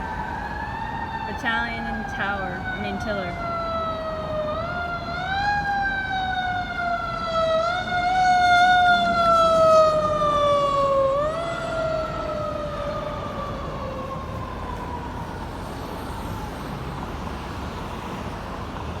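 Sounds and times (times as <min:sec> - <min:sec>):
fire engine siren wailing: 0:00.0 - 0:19.0.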